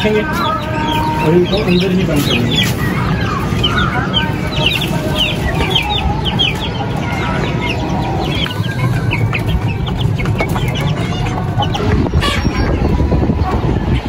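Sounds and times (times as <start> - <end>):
chicks peeping: 0.0 - 14.0
hens clucking: 0.0 - 14.0
wind on microphone: 2.3 - 14.0.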